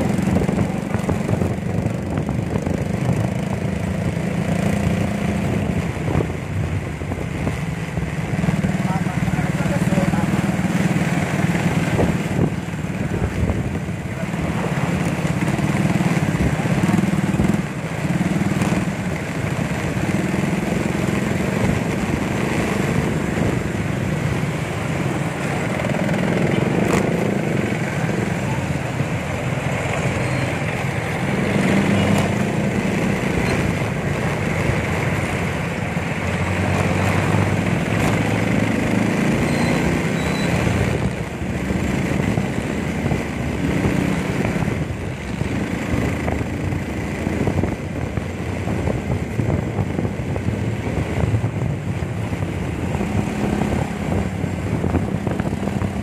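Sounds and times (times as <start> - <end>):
road noise rushing: 0.0 - 56.0.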